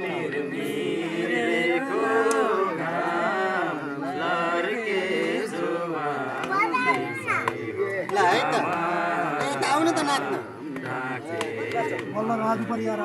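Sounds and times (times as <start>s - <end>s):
men singing a folk song: 0.0s - 13.0s.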